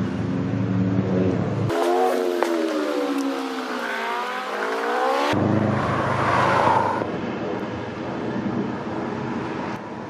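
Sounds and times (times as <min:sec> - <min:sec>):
steady traffic noise: 0:00.0 - 0:10.0
vehicle engine: 0:00.0 - 0:10.0.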